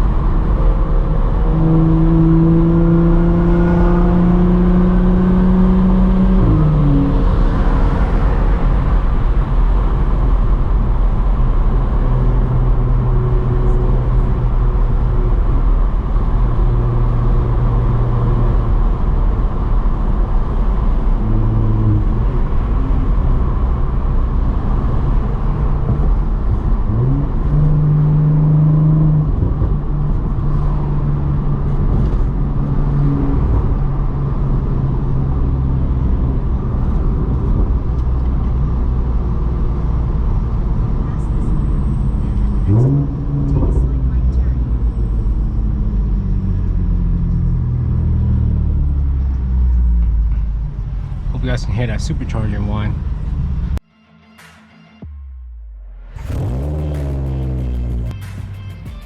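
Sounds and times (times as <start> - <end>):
car engine hum: 0.0 - 53.8, 55.2 - 59.0
road rumble: 0.0 - 53.8, 55.0 - 59.0.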